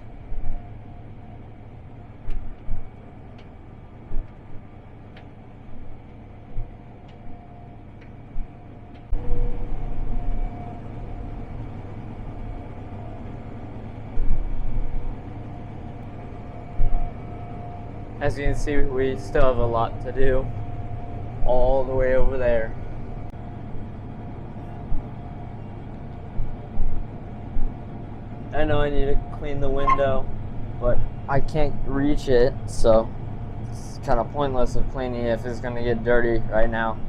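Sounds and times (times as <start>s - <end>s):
combine harvester droning: 0.0s - 37.0s
faint steady whine: 0.0s - 37.0s.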